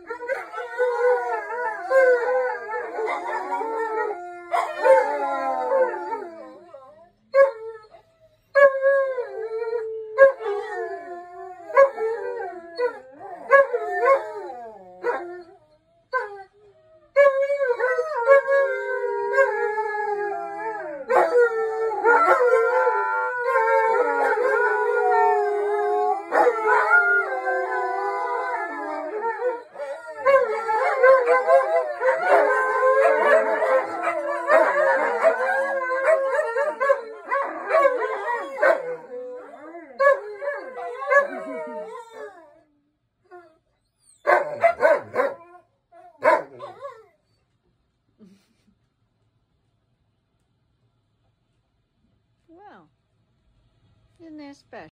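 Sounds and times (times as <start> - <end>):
dogs howling together: 0.0 - 8.0, 8.6 - 16.5, 17.1 - 42.7, 44.2 - 47.1.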